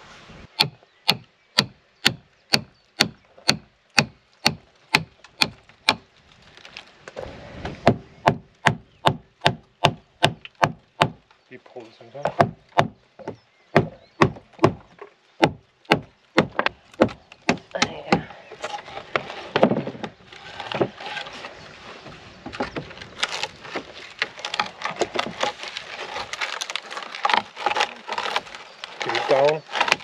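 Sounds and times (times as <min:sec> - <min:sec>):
rotten wood crackling and splintering: 0:00.5 - 0:30.0.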